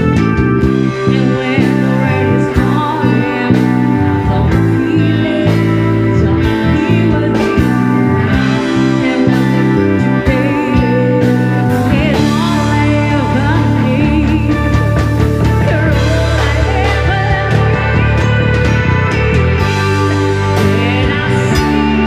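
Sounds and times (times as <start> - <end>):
bass: 0.0 - 22.0
drums: 0.0 - 22.0
electric guitar: 0.0 - 22.0.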